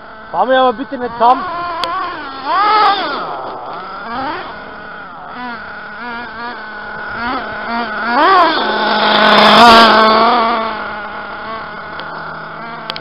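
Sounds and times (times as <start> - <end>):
model car engine revving: 0.0 - 13.0.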